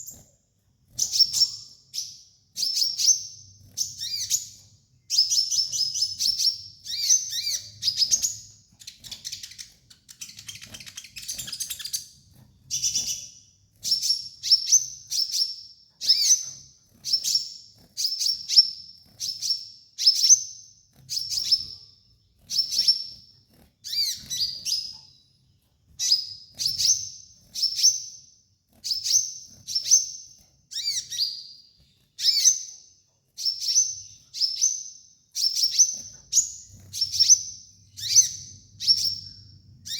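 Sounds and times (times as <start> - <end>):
bird chirping song: 0.0 - 39.9
buzzy bird trill: 0.9 - 32.7, 33.4 - 39.9.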